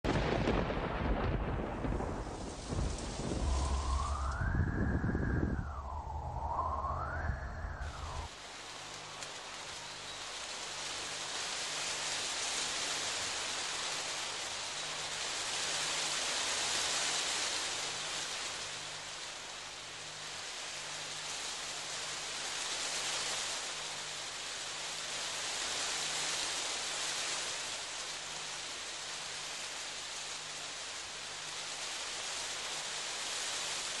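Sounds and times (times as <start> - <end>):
rain hiss: 0.1 - 34.0.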